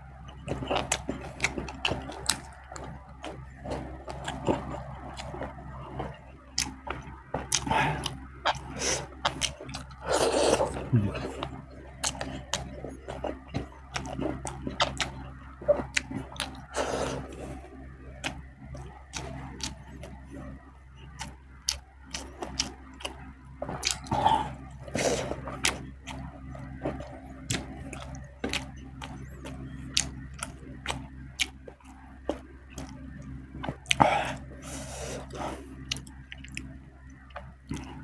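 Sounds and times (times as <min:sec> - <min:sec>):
faint low hum: 0:00.0 - 0:38.0
man chewing and smacking lips: 0:00.0 - 0:38.0.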